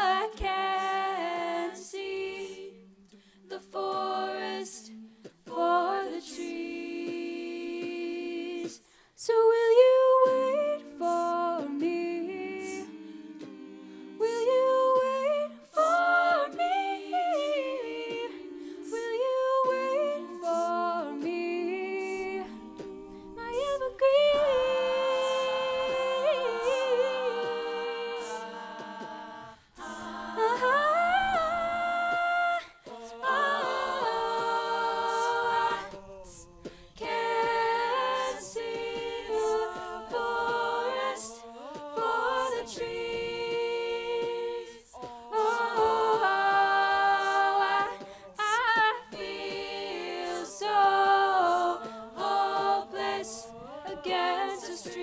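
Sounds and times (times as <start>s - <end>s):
a cappella group singing: 0.0s - 55.0s.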